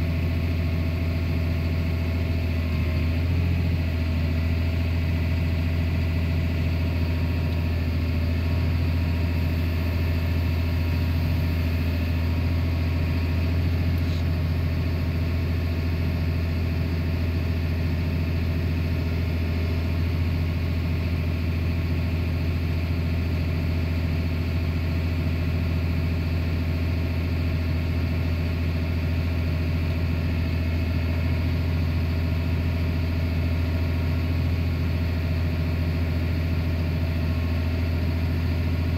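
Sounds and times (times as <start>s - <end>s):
tractor engine running steadily: 0.0s - 38.9s.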